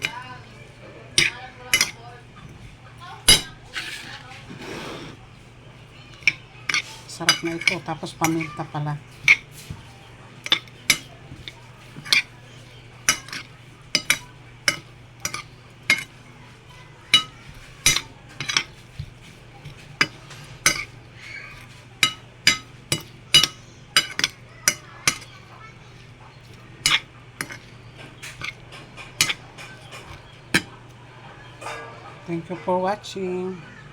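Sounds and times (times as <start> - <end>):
utensil clinking against bowl: 0.0 - 3.8, 5.9 - 32.6.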